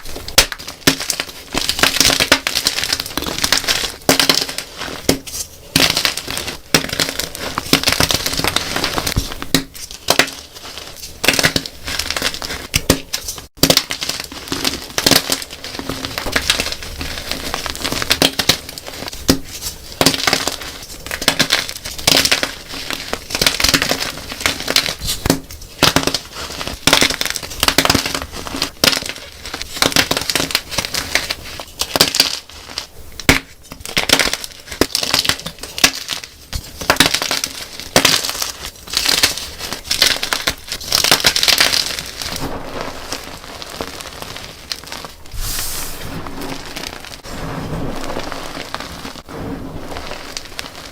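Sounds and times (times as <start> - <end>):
chalk being crushed: 0.0 - 50.9.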